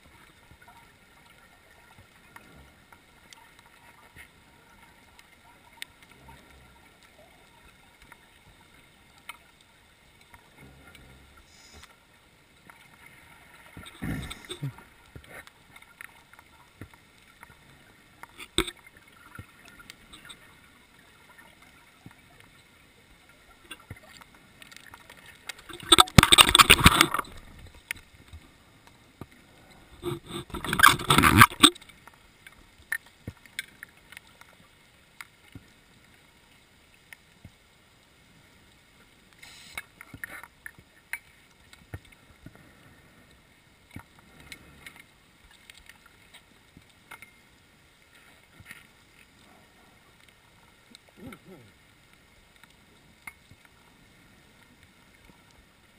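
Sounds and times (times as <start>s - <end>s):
faint clicks and ticks: 0.0s - 55.9s.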